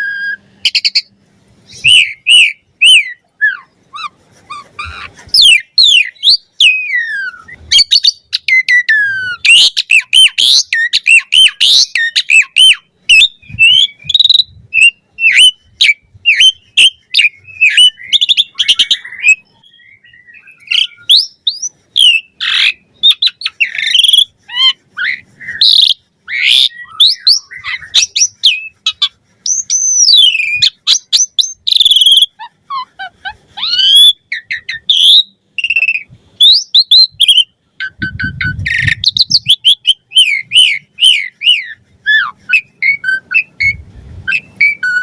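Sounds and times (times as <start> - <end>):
starling singing whistles and chirps: 0.0 - 1.1, 1.7 - 45.0.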